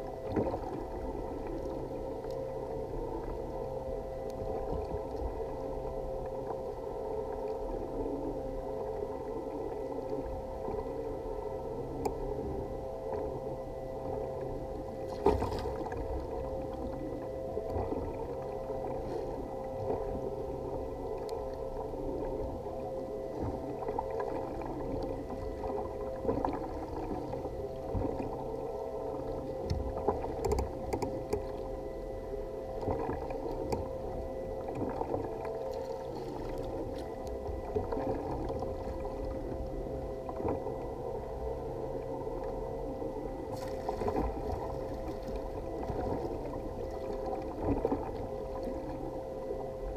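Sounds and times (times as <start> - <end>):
steady low hum: 0.0 - 49.9
water sloshing against hull: 0.0 - 49.9.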